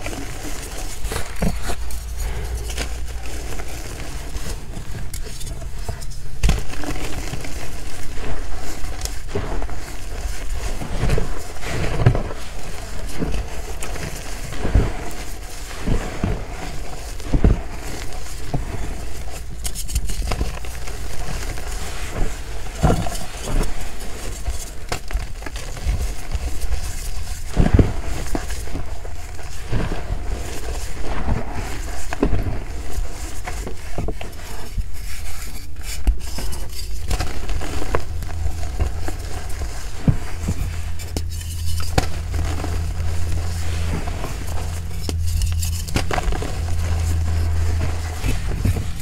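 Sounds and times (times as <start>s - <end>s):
chalk crackling crunch: 0.0s - 49.0s.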